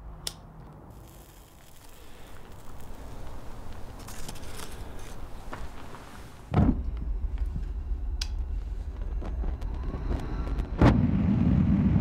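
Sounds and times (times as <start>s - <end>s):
fire crackling: 0.8s - 12.0s.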